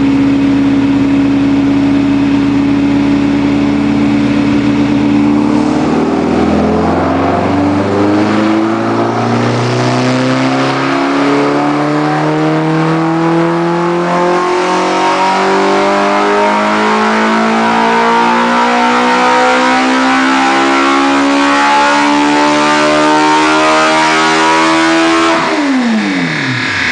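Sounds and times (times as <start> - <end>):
engine revving at full throttle: 0.0 - 26.9.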